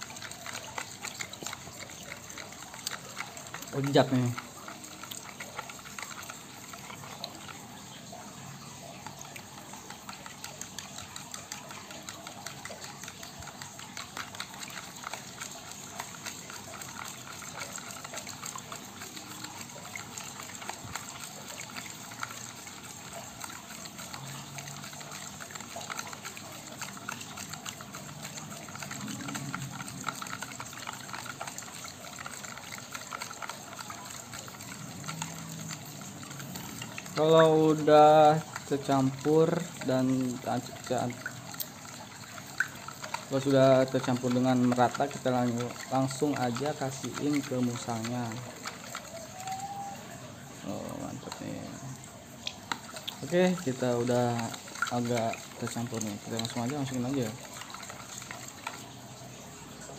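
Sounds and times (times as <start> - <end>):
spoon clicking and scraping: 0.0 - 8.1, 8.7 - 50.1, 50.8 - 59.4
liquid sloshing in a bowl: 0.0 - 59.9.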